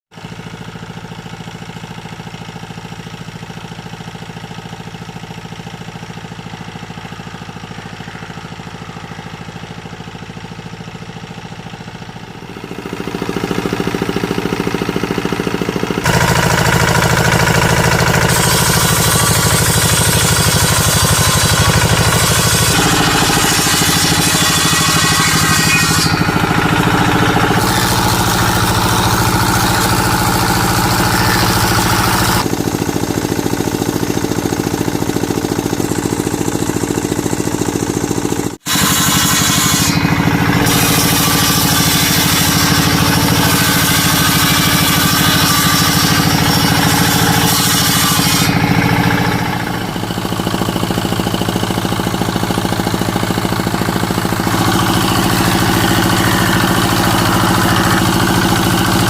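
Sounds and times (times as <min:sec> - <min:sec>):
power tool motor running: 0:10.6 - 0:59.0.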